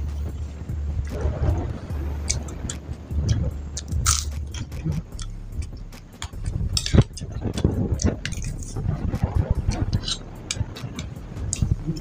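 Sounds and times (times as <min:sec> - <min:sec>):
cracker crunching: 0:02.2 - 0:12.0
wet mouth sounds: 0:02.3 - 0:12.0.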